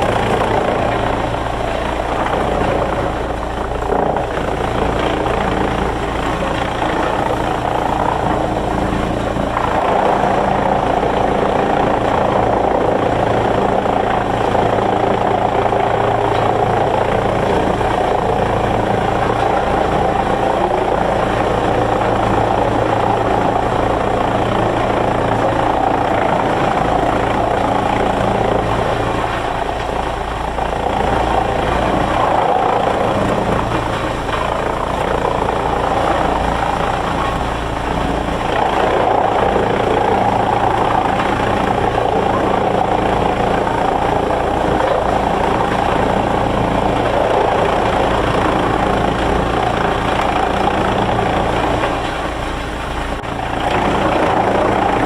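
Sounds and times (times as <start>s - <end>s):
low motor drone: 0.0s - 55.0s
sawmill machinery rushing noise: 0.0s - 55.0s.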